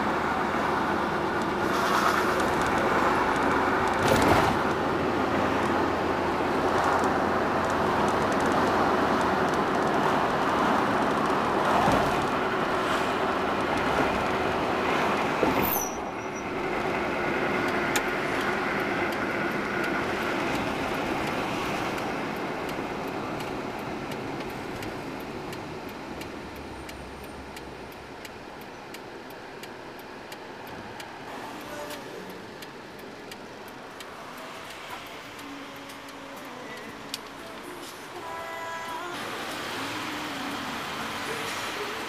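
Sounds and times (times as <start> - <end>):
road and engine noise inside car: 0.0 - 42.0.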